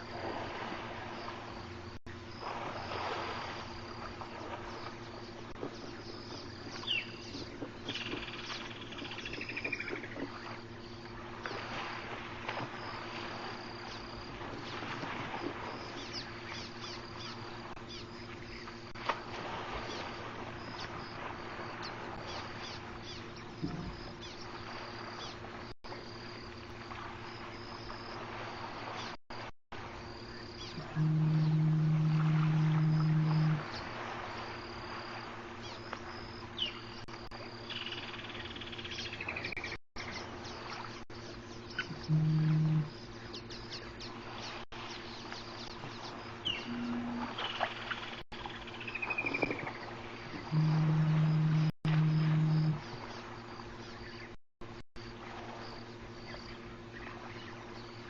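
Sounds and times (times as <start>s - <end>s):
insects chirping: 0.0s - 58.0s
low steady hum: 0.0s - 58.0s.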